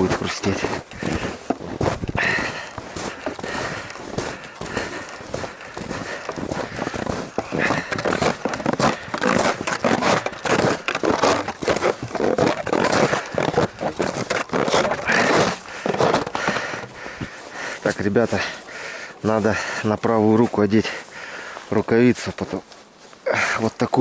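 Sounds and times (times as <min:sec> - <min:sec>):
boots crunching through snow: 0:00.0 - 0:24.0.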